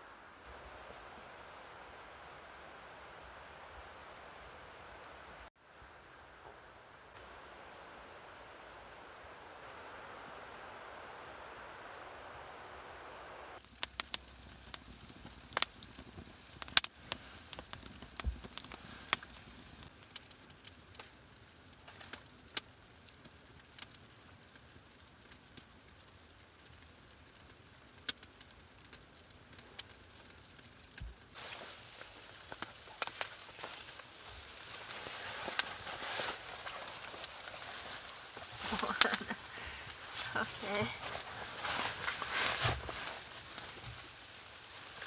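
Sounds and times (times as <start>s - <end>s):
faint steady hiss: 0.0s - 45.0s
wood fire crackling: 0.0s - 45.0s.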